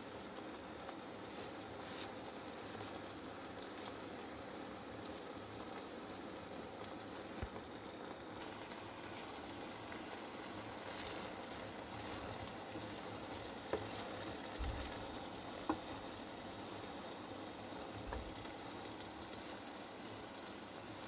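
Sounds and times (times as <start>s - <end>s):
faint steady hiss: 0.0s - 21.0s
wooden spatula stirring spinach: 0.0s - 21.0s.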